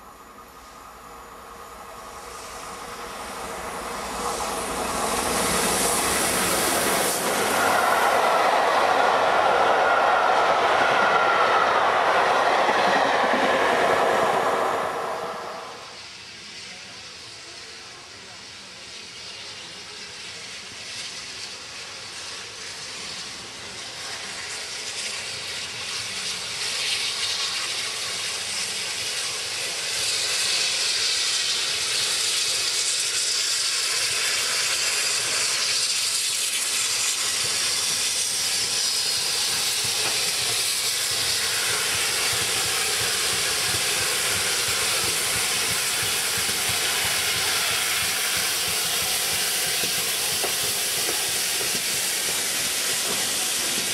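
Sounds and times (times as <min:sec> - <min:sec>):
steam locomotive running: 0:00.0 - 0:53.9.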